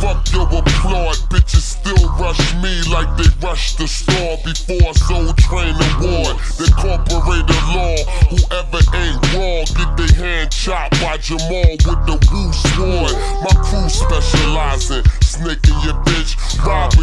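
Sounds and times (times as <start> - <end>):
deep bass line: 0.0 - 17.0
rapping over a beat: 0.0 - 17.0.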